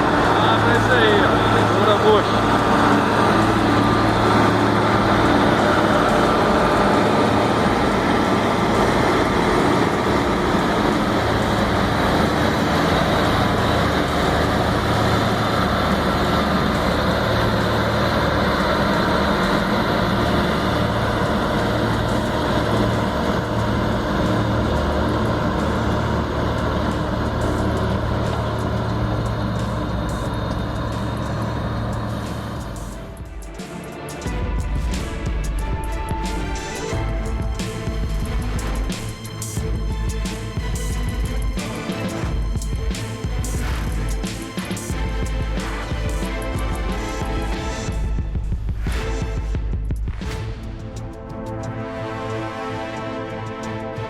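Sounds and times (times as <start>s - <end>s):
heavy vehicle engine droning: 0.0s - 54.0s.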